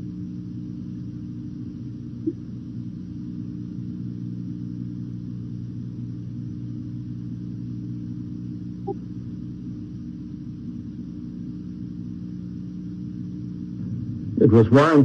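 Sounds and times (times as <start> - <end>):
low hum over rumble: 0.0 - 15.0.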